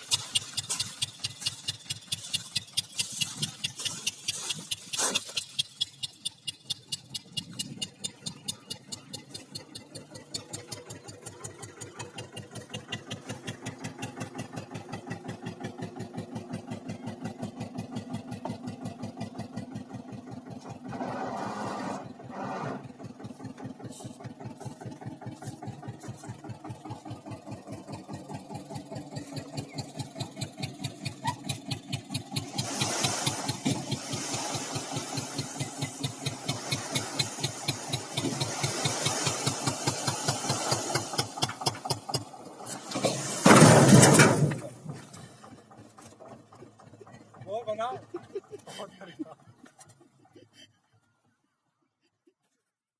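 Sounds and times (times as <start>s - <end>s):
tractor diesel engine chugging: 0.0s - 51.9s.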